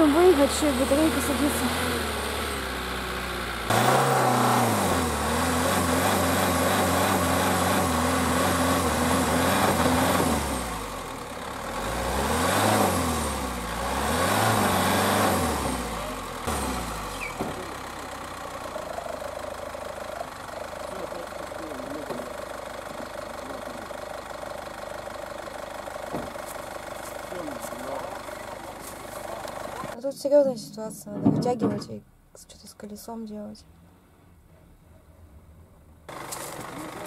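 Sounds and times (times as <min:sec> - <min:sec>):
van engine revving: 0:00.0 - 0:30.0, 0:33.6 - 0:37.0.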